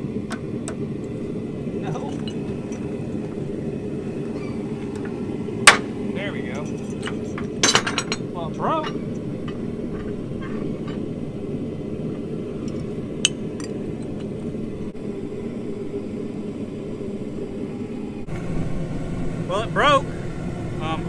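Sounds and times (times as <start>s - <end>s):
forge burner roaring: 0.0s - 21.0s.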